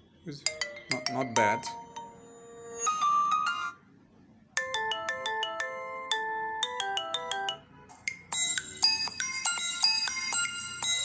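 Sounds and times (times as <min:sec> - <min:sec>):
phone ringtone tune: 0:00.4 - 0:03.8, 0:04.6 - 0:11.0
higher-pitched ringtone: 0:00.5 - 0:03.8, 0:04.6 - 0:11.0.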